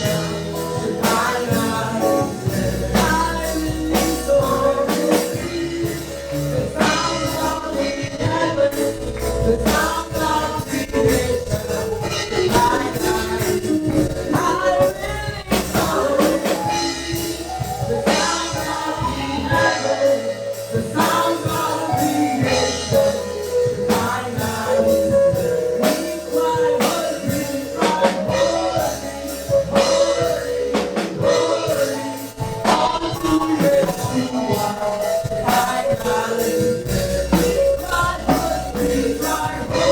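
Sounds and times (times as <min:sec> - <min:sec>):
band playing: 0:00.0 - 0:39.9
choir singing gospel: 0:00.0 - 0:39.9.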